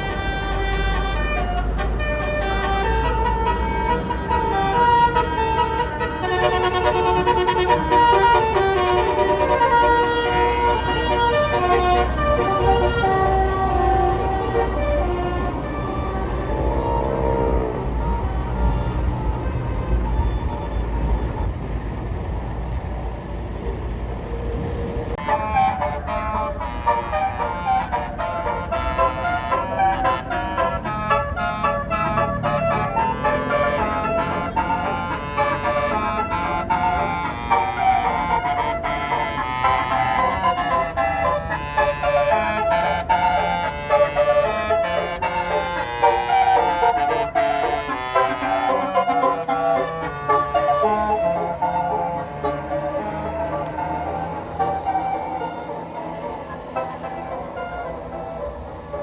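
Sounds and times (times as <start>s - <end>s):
multi-tone air horn melody: 0.0s - 22.6s, 24.9s - 59.0s
bus engine rumble: 0.0s - 59.0s.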